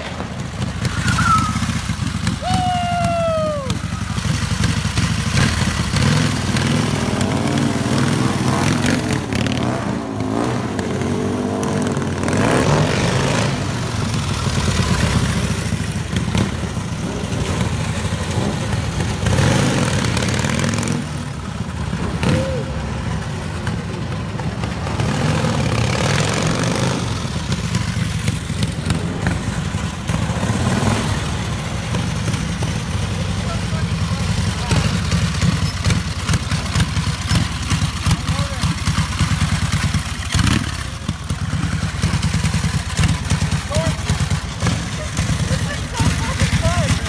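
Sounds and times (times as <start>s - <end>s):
motorcycle engines revving: 0.0s - 47.0s.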